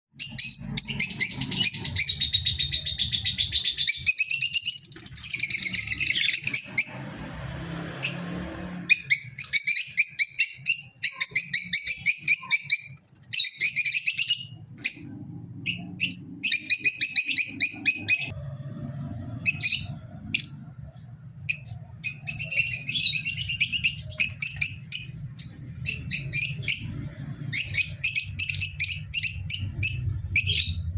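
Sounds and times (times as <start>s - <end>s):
lovebirds chirping: 0.2s - 18.4s, 19.2s - 30.9s.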